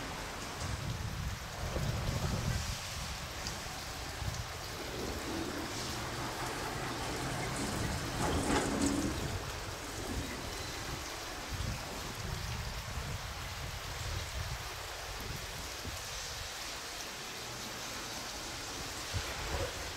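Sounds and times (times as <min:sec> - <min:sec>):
wind buffeting the microphone: 0:00.1 - 0:16.6, 0:18.9 - 0:19.9.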